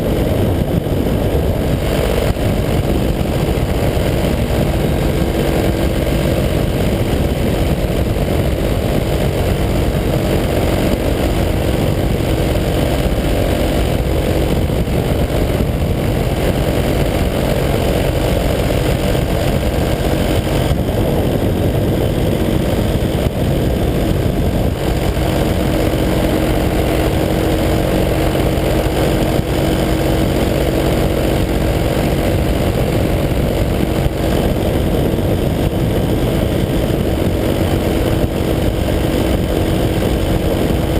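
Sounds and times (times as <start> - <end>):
paramotor engine drone: 0.0 - 40.9.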